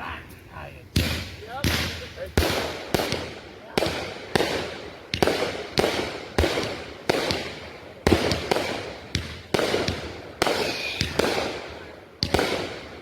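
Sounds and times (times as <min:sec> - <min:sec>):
fireworks bangs crackling: 0:00.0 - 0:13.0.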